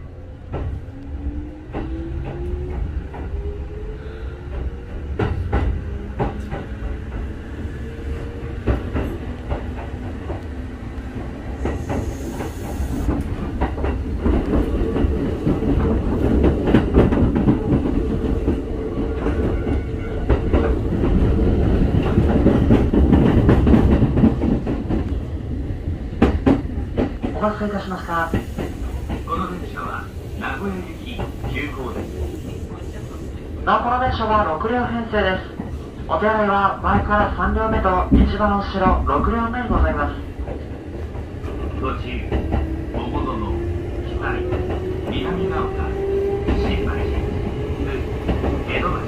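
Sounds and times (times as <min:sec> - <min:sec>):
train running noise: 0:00.0 - 0:49.0.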